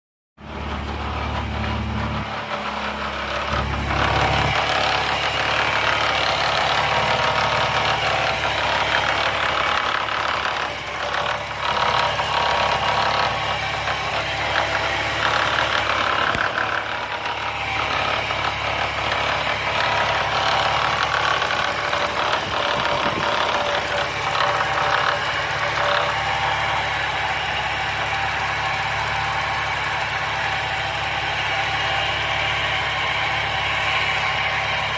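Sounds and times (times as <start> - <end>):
car engine idling: 0.4 - 34.9.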